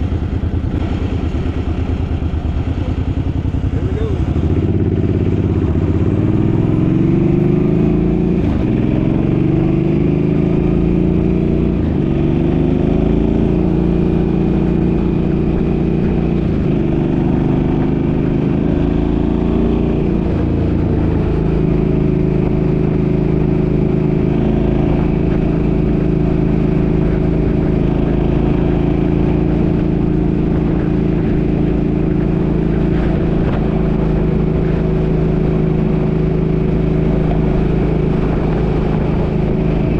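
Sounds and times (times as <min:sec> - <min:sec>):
motorcycle engine accelerating: 0:00.0 - 0:39.9
wind rumbling on microphone: 0:00.0 - 0:39.9.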